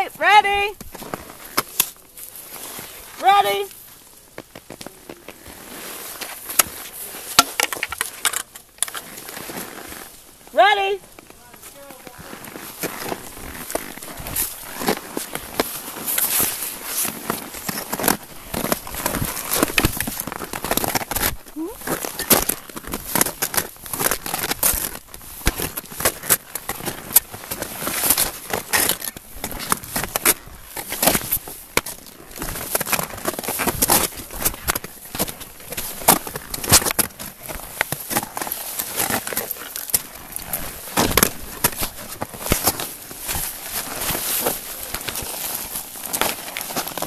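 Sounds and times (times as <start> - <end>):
boots crunching on snow and ice: 0.8 - 8.2, 8.8 - 47.0
clothing rustling on microphone: 9.0 - 47.0.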